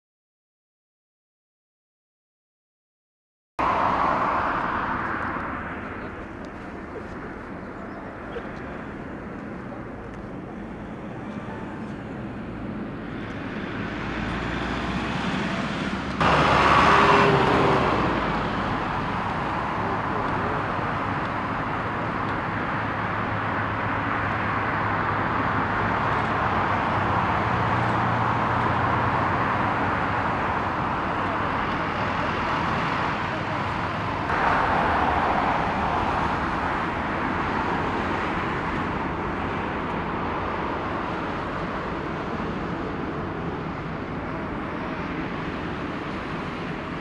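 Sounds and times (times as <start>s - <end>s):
jet engines rushing: 3.6s - 47.0s.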